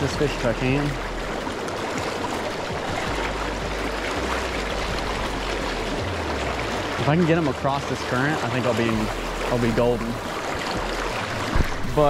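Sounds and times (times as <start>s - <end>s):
stream water rushing over rocks: 0.0s - 12.0s.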